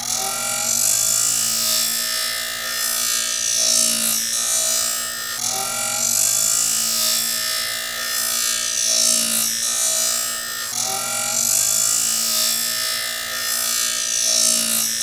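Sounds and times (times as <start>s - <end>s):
electric drill motor whine: 0.0s - 15.0s.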